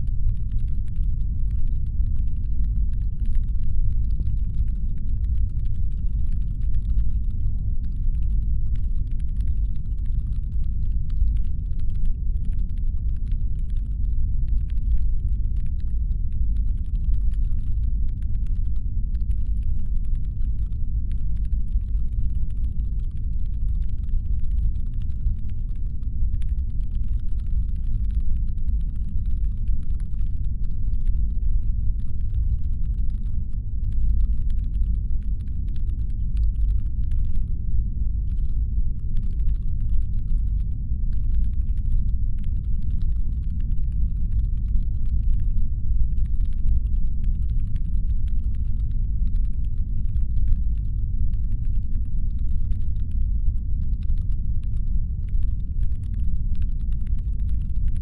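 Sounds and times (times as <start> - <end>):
deep spaceship engine hum: 0.0 - 58.0
faint crackle of ticks: 0.0 - 58.0.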